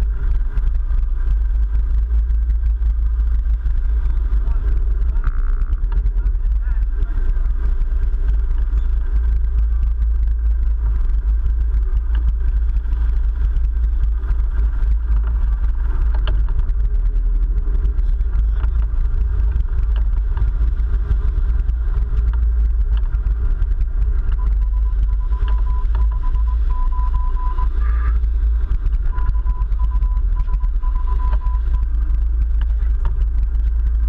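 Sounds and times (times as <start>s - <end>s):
boat engines rumbling: 0.0s - 34.0s.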